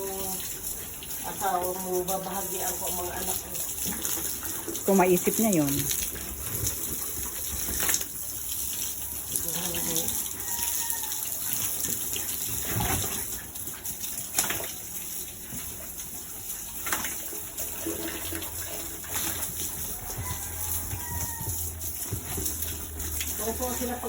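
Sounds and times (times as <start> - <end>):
running water splashing: 0.0 - 24.0.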